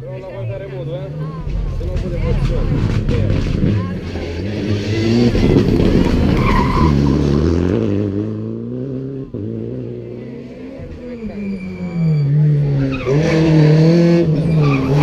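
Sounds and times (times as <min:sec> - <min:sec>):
rally car engine revving past: 0:02.4 - 0:15.0.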